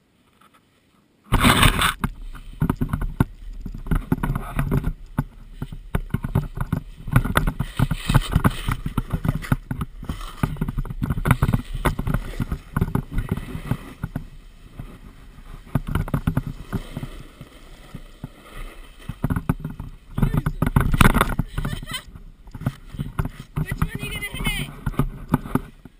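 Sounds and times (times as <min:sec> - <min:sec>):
camera knocking and rumbling: 0:01.3 - 0:25.9.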